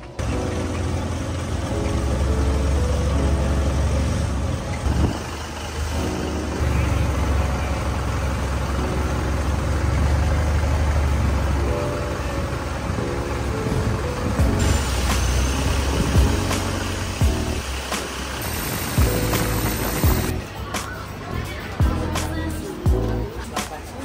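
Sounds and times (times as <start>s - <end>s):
engine running with low drone: 0.0s - 23.4s.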